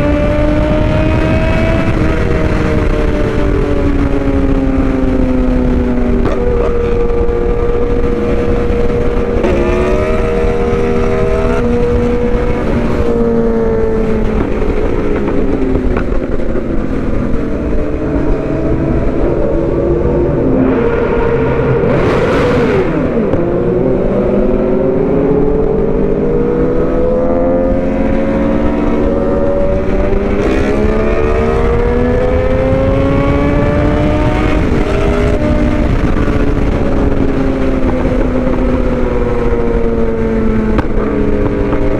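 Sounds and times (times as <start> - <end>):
motorcycle engine accelerating: 0.0 - 41.9
wind rush on microphone: 0.0 - 41.9.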